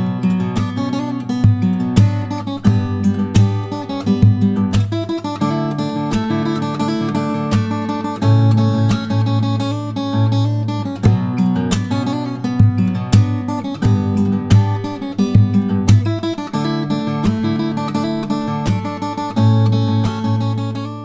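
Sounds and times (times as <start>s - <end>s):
strummed acoustic guitar music: 0.0s - 21.0s.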